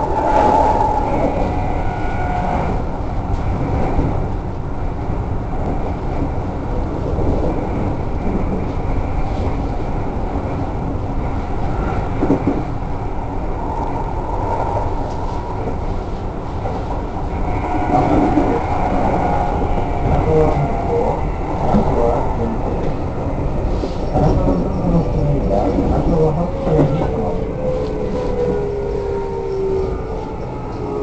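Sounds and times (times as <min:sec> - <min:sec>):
faint train whine: 0:00.0 - 0:31.0
rail clack: 0:00.0 - 0:31.0
train wheels rumbling on rail: 0:00.0 - 0:31.0.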